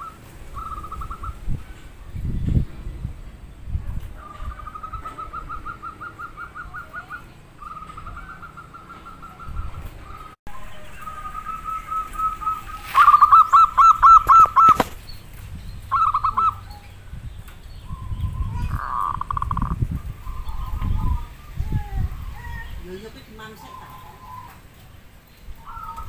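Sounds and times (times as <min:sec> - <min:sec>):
doves cooing: 0:00.0 - 0:02.0, 0:04.1 - 0:17.1, 0:17.8 - 0:26.0.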